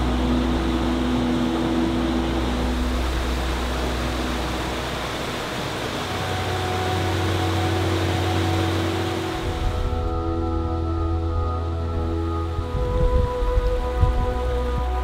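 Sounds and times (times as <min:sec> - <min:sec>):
ambient music: 0:00.0 - 0:15.0
steady hiss: 0:00.0 - 0:15.0.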